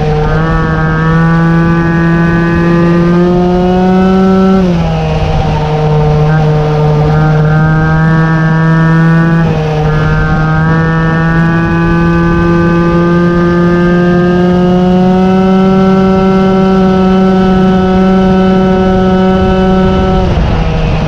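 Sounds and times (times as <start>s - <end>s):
moped engine running: 0.0s - 21.0s.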